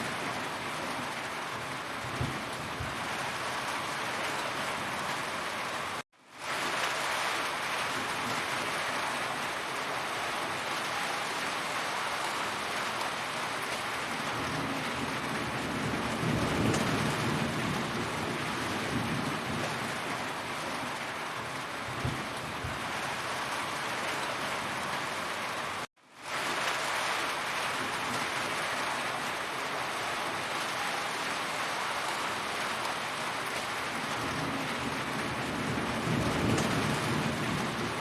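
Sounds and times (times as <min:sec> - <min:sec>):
heavy rain: 0:00.0 - 0:38.0.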